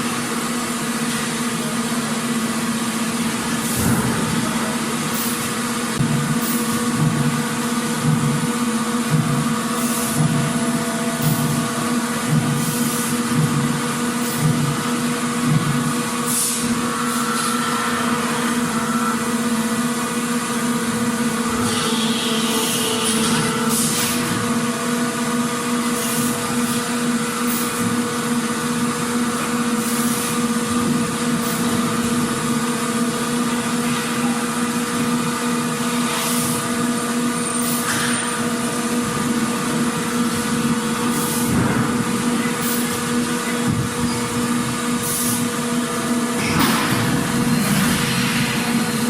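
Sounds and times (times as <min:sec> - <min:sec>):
factory machinery humming: 0:00.0 - 0:49.0.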